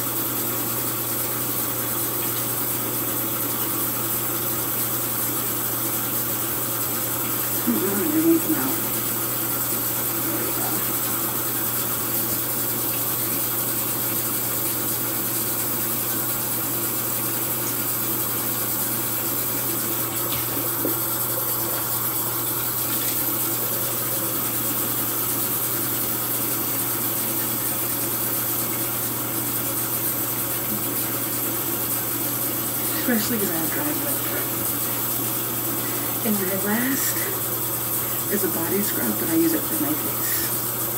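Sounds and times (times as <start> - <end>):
sink tap running: 0.0 - 40.9.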